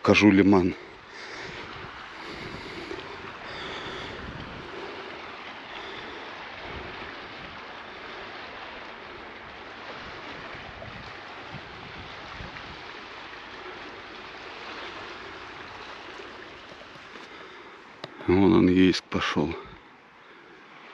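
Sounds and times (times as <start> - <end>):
wind blowing across microphone: 0.0 - 17.1.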